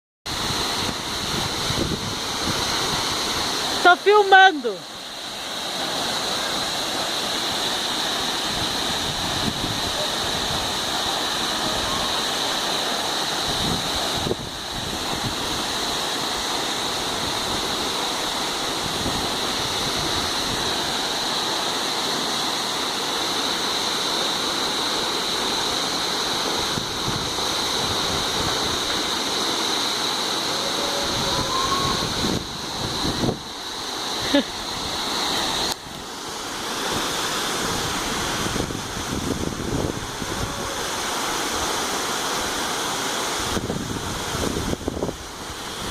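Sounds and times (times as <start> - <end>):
waterfall rushing: 0.3 - 45.9.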